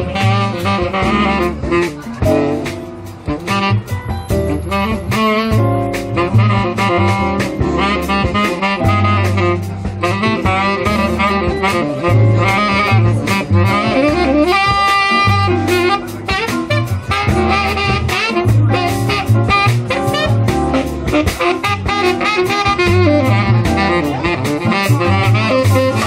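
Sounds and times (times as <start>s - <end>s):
drums with cymbal strikes: 0.0s - 26.0s
tenor saxophone jazz melody: 0.0s - 26.0s
upright bass: 0.0s - 26.0s.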